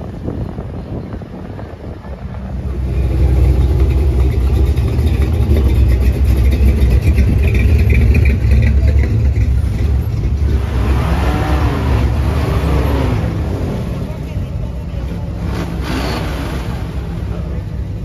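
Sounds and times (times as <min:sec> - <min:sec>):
classic car engines rumbling: 0:00.0 - 0:18.0.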